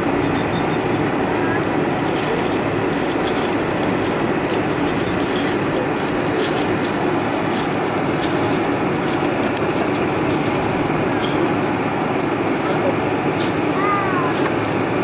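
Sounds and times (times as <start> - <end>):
airplane cabin rumble taxiing: 0.0 - 15.0.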